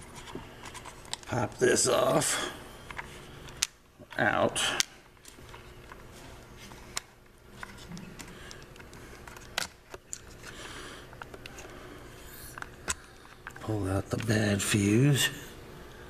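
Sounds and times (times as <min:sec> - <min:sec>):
faint handling sounds: 0:00.0 - 0:15.0.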